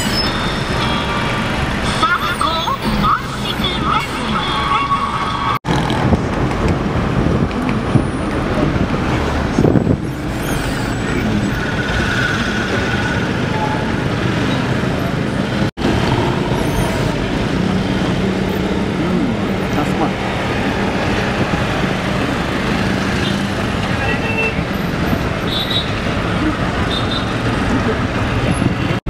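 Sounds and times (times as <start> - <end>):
nearby vehicle engines: 0.0 - 29.0
road noise: 0.0 - 29.0.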